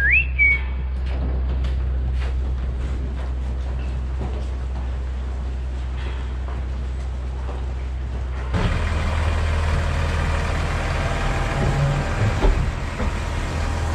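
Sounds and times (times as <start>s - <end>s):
low engine drone: 0.0s - 13.9s
tractor engine running: 0.0s - 13.9s.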